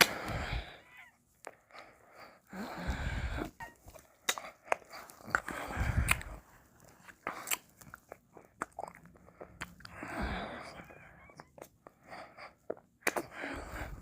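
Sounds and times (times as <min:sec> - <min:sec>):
mouth sounds eating ice cream: 0:01.4 - 0:14.0.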